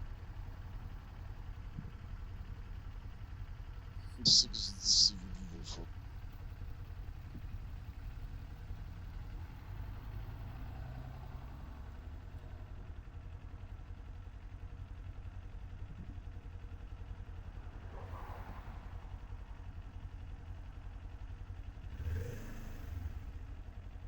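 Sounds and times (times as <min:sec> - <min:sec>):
motorcycle engine running: 0:00.0 - 0:17.9, 0:18.8 - 0:24.0.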